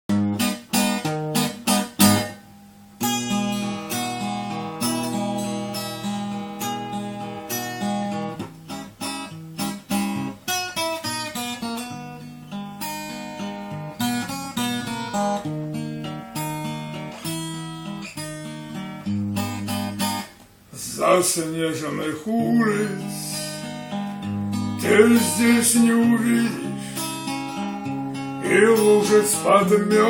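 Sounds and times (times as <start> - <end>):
acoustic guitar picked and strummed: 0.1 - 30.0.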